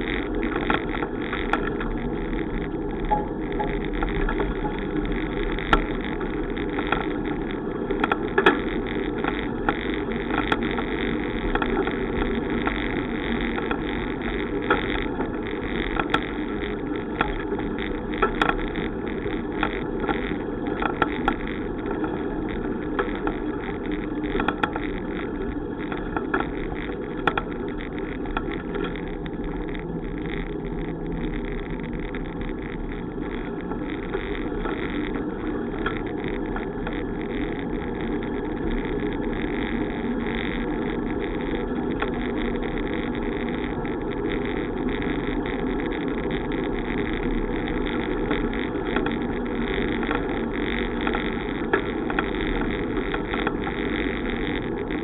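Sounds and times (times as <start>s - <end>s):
bicycle clicks and rattles: 0.0s - 55.0s
bicycle road noise: 0.0s - 55.0s
wind noise: 0.0s - 55.0s.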